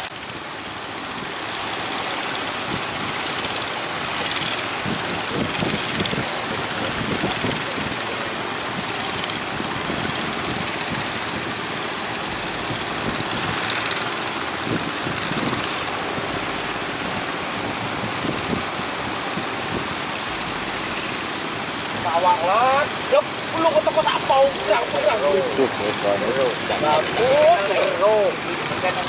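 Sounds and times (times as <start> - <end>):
boat engine running: 0.0 - 29.0
surf rushing: 0.0 - 29.0
wind: 0.0 - 29.0.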